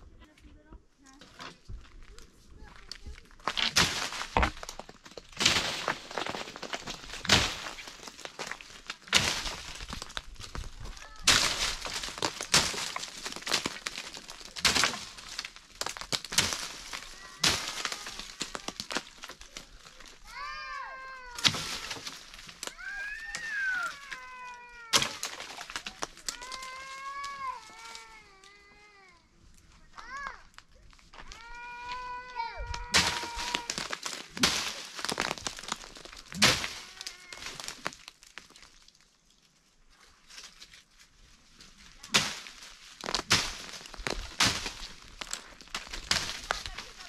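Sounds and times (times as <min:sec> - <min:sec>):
branches and leaves rustling: 0:00.0 - 0:47.0.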